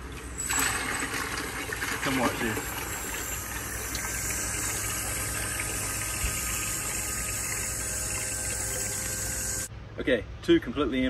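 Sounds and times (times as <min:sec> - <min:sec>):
pump humming: 0:00.0 - 0:09.7
water pouring into a bucket: 0:00.0 - 0:09.7.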